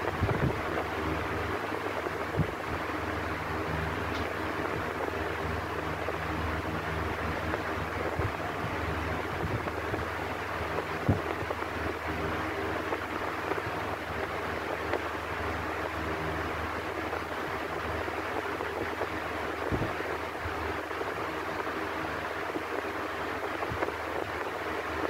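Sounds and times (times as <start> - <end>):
electric fan air rush: 0.0 - 25.0
fan motor hum: 0.0 - 25.0.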